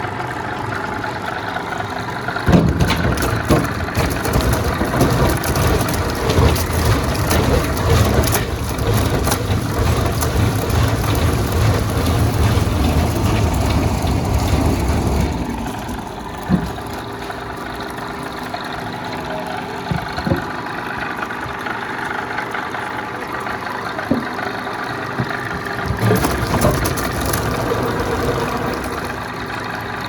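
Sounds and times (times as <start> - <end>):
machine hum: 0.0 - 30.0
veneer lathe rumbling: 0.0 - 30.0.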